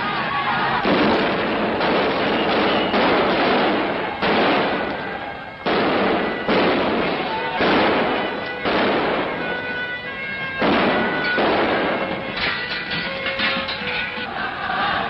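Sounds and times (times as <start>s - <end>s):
tear-gas grenades banging: 0.8s - 14.3s.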